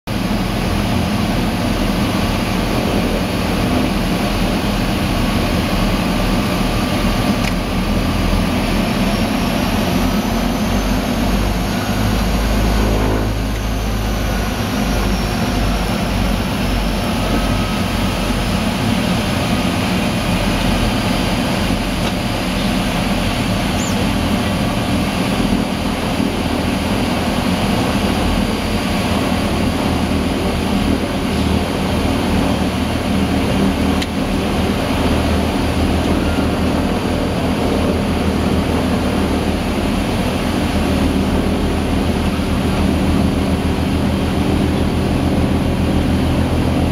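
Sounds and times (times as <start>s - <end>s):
turboprop engines droning: 0.1s - 46.9s.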